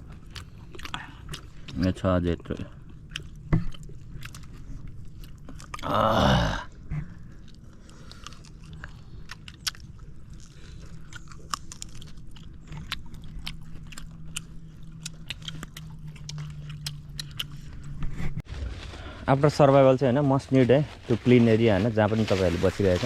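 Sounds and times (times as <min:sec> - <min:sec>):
chewing and crunching meat: 0:00.0 - 0:18.6.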